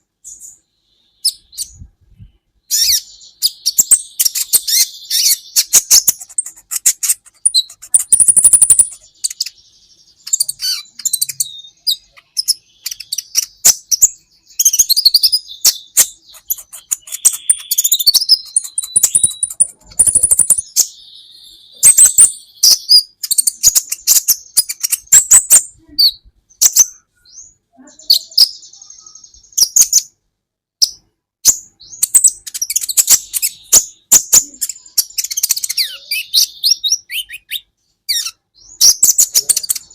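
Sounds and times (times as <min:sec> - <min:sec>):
sunbird chirping and trilling: 0:00.0 - 0:30.2, 0:30.8 - 0:39.9.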